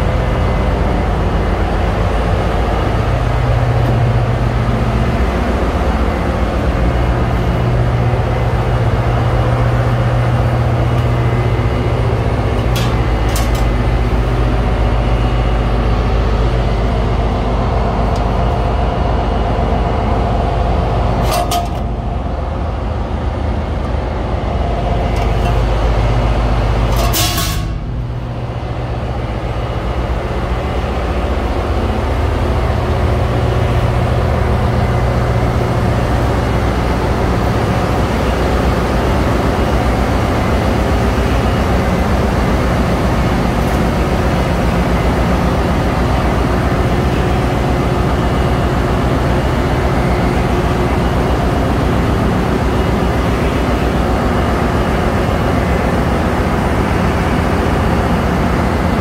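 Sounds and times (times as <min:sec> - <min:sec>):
marine diesel machinery drone: 0:00.0 - 0:59.0.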